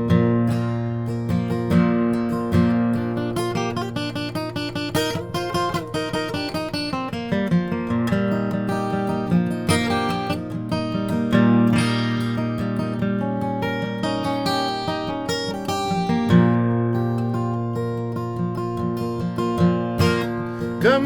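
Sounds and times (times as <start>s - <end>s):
acoustic guitar picked melody: 0.0s - 21.0s.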